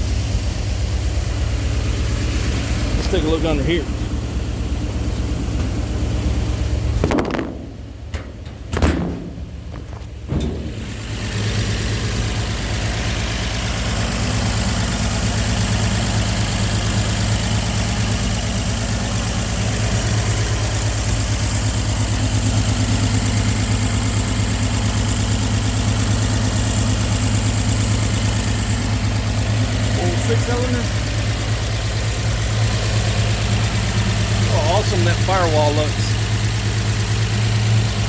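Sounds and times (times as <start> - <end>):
pickup engine idling: 0.0 - 38.0.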